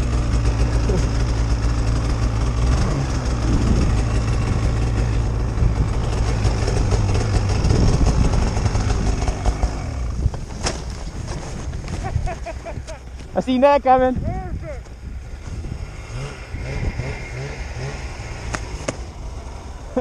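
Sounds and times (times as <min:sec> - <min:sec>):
snowmobile engine running hard: 0:00.0 - 0:10.5, 0:11.1 - 0:20.0.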